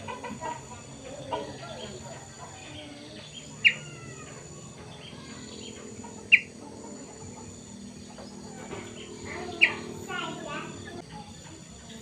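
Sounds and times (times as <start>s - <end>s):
bird chirping: 0.0s - 11.0s
faint bird twittering: 0.0s - 12.0s.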